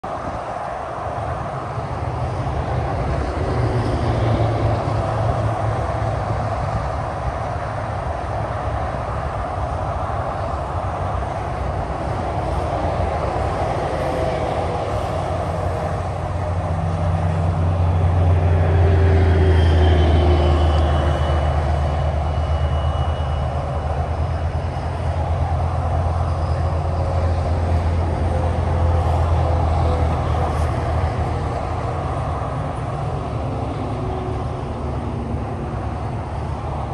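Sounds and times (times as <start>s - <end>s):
engine rumble of passing vehicles: 0.0s - 36.9s
tyres rushing on pavement: 0.0s - 36.9s.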